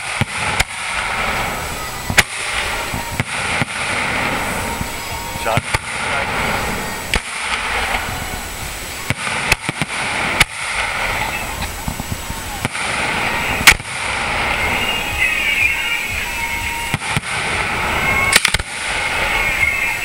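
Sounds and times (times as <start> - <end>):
firework shells bursting with bangs: 0.0 - 20.0
fireworks crackling: 0.0 - 20.0.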